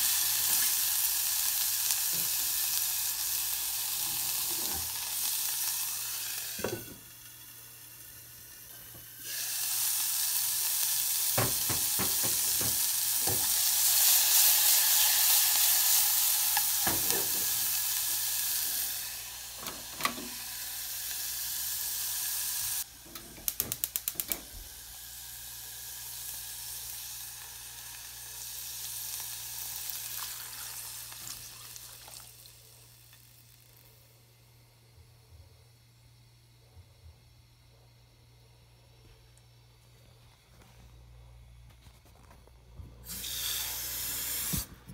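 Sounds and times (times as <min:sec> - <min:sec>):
vegetables sizzling in a saucepan: 0:00.0 - 0:34.8, 0:43.0 - 0:44.7.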